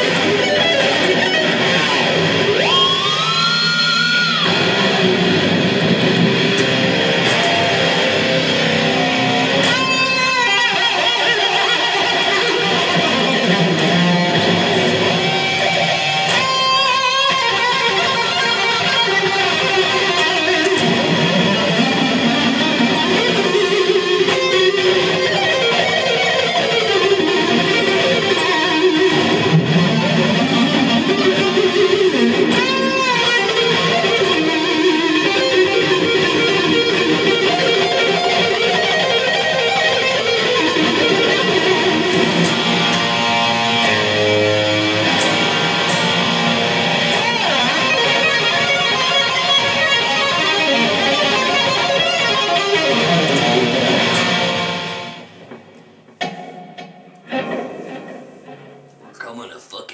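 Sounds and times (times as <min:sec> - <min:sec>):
electric guitar playing: 0:00.0 - 0:59.2.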